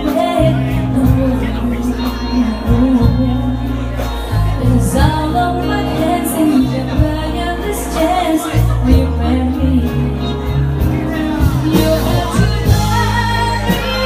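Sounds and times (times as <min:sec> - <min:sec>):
held bass notes: 0:00.0 - 0:14.0
live pop band playing: 0:00.0 - 0:14.0
woman singing: 0:00.0 - 0:14.0.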